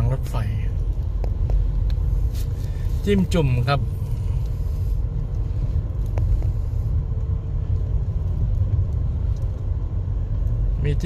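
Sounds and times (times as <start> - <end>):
faint steady hum: 0.0 - 11.0
low rumble of moving vehicle: 0.0 - 11.0.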